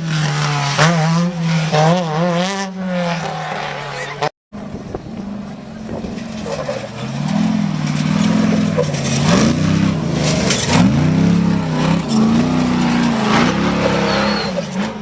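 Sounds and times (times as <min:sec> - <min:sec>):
engine revving hard: 0:00.0 - 0:04.3, 0:05.9 - 0:15.0.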